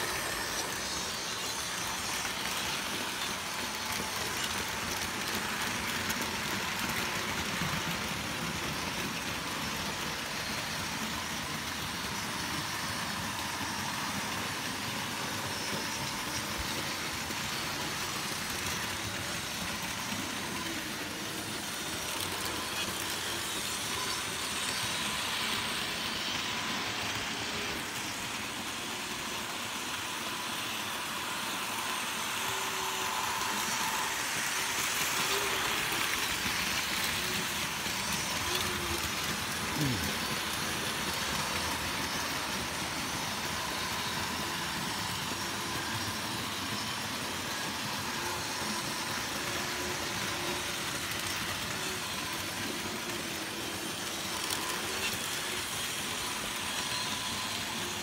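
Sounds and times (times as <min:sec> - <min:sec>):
model train rolling on track: 0:00.0 - 0:58.0.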